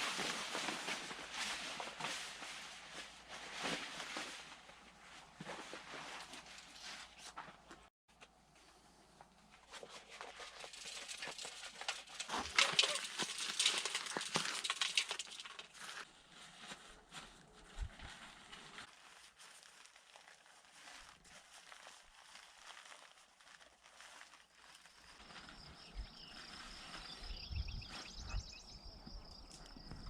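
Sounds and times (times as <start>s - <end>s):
dense rustling and crackling: 0.0s - 7.9s, 9.3s - 26.9s.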